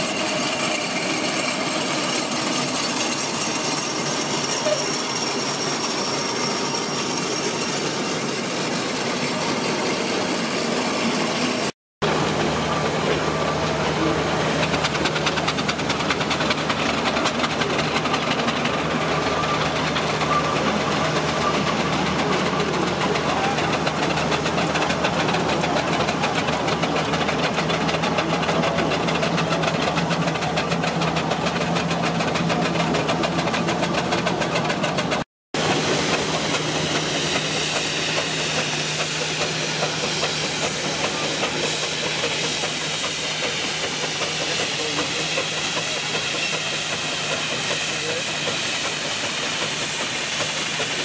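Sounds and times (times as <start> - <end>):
steam engine exhaust chuffing: 0.0 - 51.0
steam hissing: 0.0 - 51.0.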